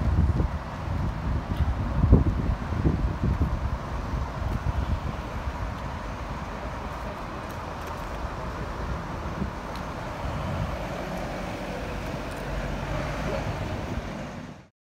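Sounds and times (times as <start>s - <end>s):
road traffic rumble: 0.0s - 14.7s.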